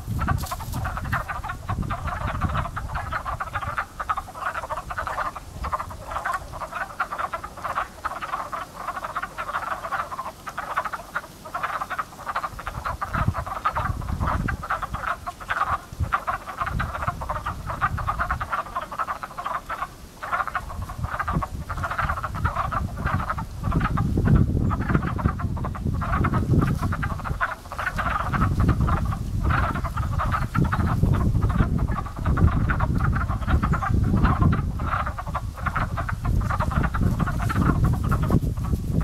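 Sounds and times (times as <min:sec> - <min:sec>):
chorus of frogs croaking: 0:00.0 - 0:39.0.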